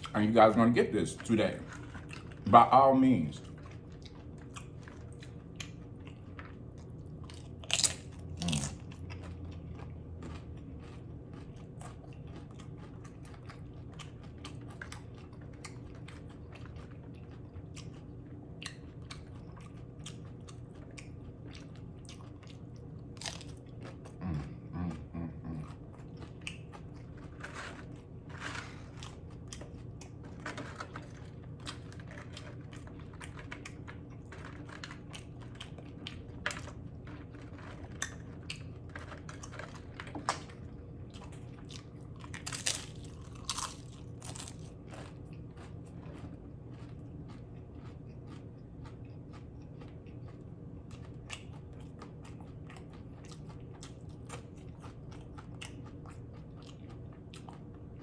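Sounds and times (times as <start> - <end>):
chewing and crunching chips: 0.0 - 58.0.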